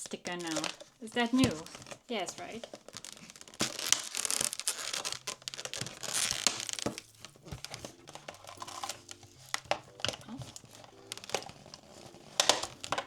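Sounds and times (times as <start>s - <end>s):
plastic packaging crinkling and tearing: 0.0s - 13.0s.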